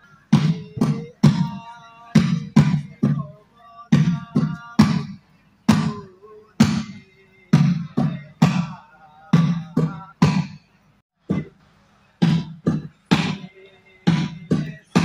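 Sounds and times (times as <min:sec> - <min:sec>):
deep folk drum beats: 0:00.2 - 0:11.6, 0:12.2 - 0:15.0.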